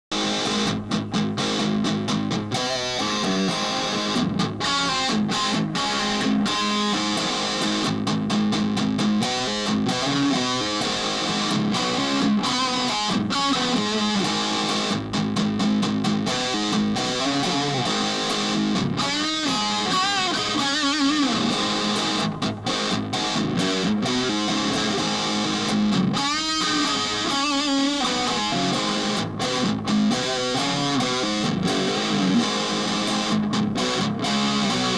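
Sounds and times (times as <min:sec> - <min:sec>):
electric guitar playing: 0:00.1 - 0:34.9.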